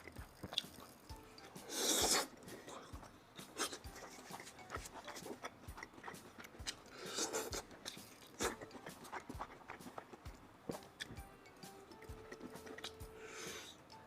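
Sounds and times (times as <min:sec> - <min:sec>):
person chewing crunchy food: 0:00.0 - 0:11.3, 0:11.9 - 0:14.0.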